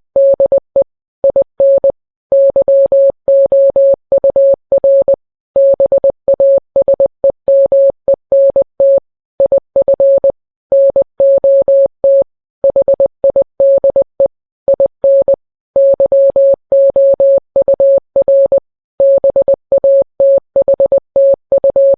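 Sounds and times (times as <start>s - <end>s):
morse code beeps: 0.2s - 21.9s.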